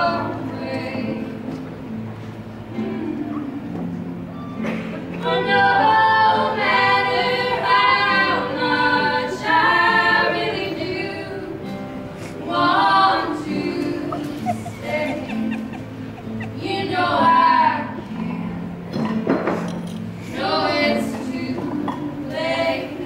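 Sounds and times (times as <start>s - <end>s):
women singing in harmony: 0.0s - 1.8s, 2.7s - 4.0s, 4.6s - 18.7s, 20.1s - 23.0s
acoustic guitar: 0.0s - 23.0s.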